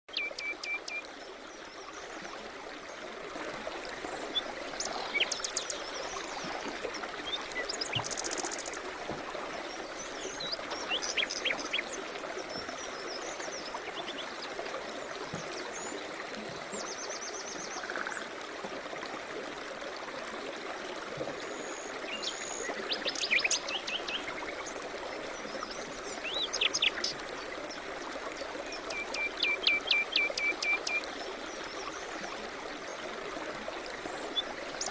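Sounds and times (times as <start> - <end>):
river flowing: 0.2 - 34.9.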